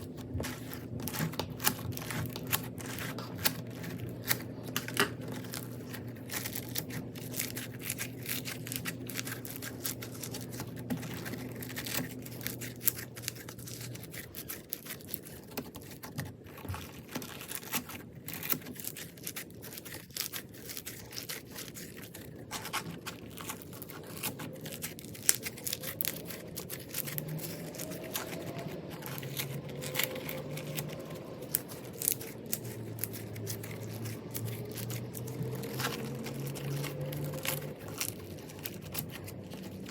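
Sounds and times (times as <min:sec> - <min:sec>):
bead-filled slime crackling: 0:00.0 - 0:39.9.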